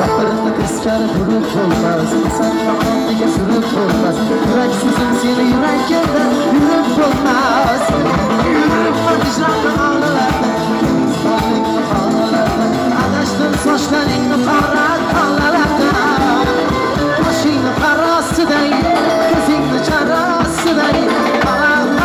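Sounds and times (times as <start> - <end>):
frame drum and drum kit beat: 0.0 - 22.0
keyboard lines: 0.0 - 22.0
man singing ornamented vocals: 0.0 - 22.0.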